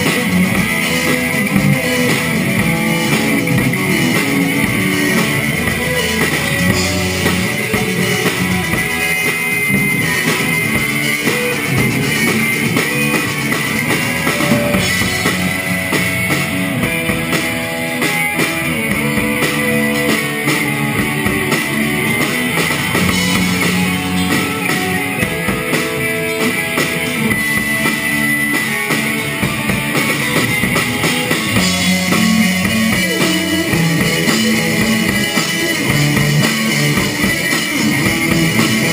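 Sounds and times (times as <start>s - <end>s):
bass guitar: 0.0s - 38.9s
drum kit: 0.0s - 38.9s
electric guitars: 0.0s - 38.9s.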